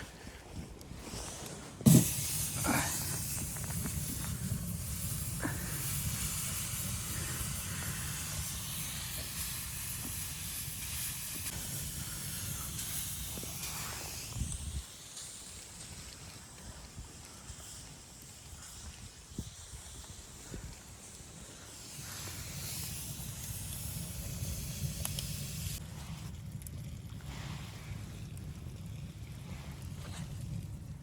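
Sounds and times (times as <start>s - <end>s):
steady hiss: 1.1s - 26.0s.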